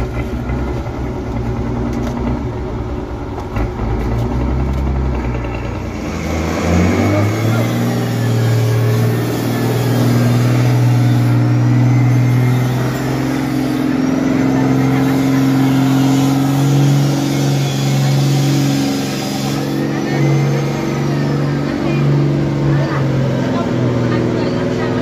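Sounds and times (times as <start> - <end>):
diesel truck engine revving: 0.0 - 25.0.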